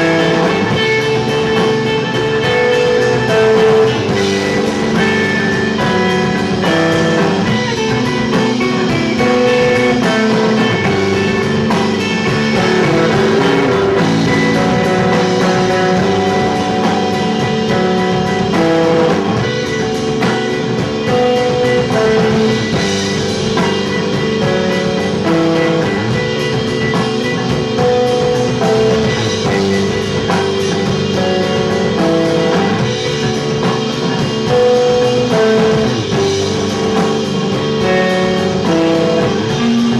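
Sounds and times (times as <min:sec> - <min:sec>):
bass guitar: 0:00.0 - 0:39.9
drum kit: 0:00.0 - 0:39.9
electric guitar figure: 0:00.0 - 0:39.9.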